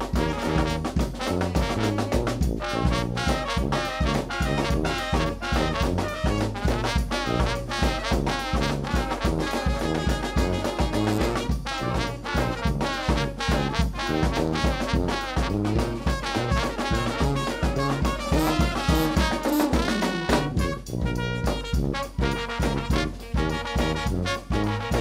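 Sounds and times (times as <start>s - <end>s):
bass drum and snare beat: 0.0s - 25.0s
brass band playing: 0.0s - 25.0s.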